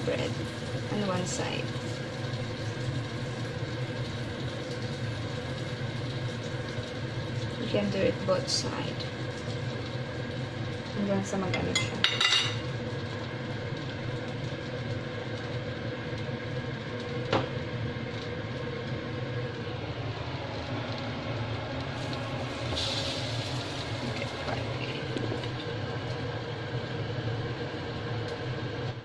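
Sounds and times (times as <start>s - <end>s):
bread sizzling in a pan: 0.0s - 29.0s.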